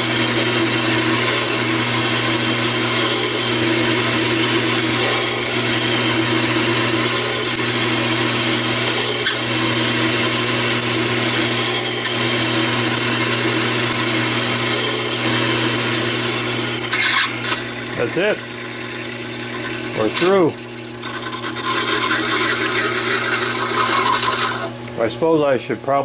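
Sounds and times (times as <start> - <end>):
drill cutting steel hiss: 0.0 - 24.8
lathe motor hum: 0.0 - 26.0.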